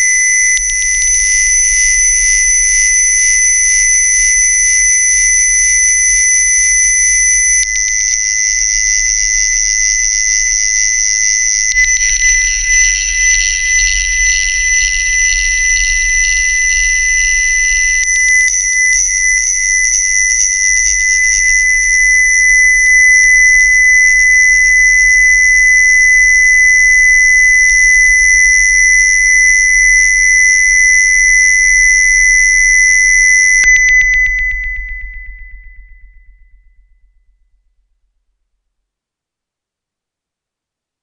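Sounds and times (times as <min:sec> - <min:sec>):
piercing high electronic tones: 0:00.0 - 0:37.0
low electronic hum: 0:00.0 - 0:38.3.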